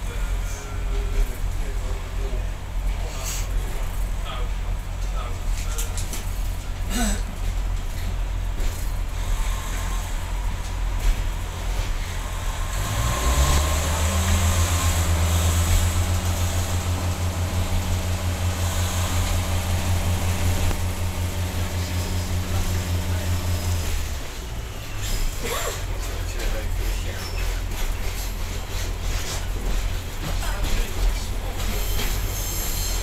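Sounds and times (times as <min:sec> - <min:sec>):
diesel engine drone: 0:00.0 - 0:33.0
train running noise: 0:00.0 - 0:33.0.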